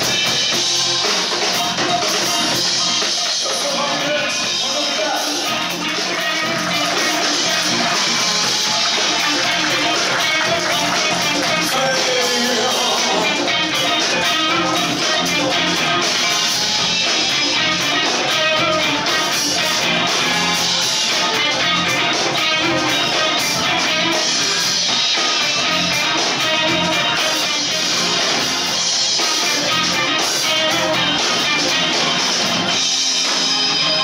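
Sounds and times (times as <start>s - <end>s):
bass guitar: 0.0s - 34.0s
drum kit: 0.0s - 34.0s
electric guitars: 0.0s - 34.0s.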